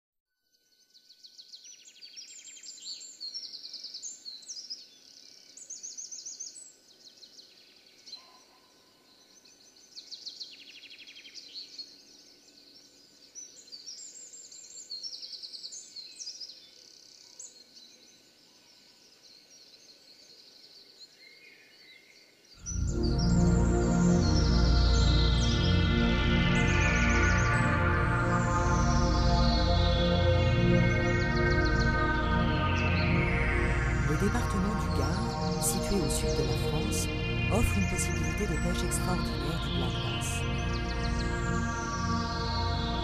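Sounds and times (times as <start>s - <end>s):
songbirds trilling and chirping: 0.7s - 43.0s.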